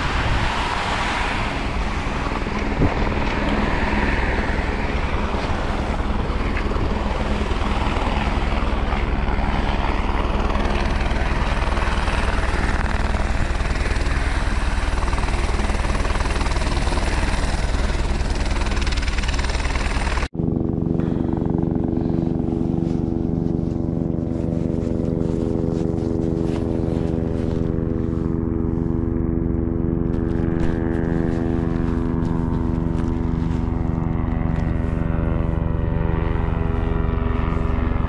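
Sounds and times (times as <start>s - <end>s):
helicopter rotor pulse: 0.0s - 38.0s
steady aircraft drone: 0.0s - 38.0s.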